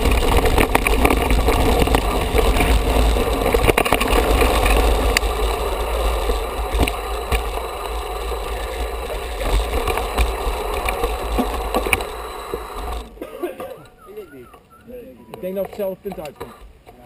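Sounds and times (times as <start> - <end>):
bike rattling: 0.0 - 14.8.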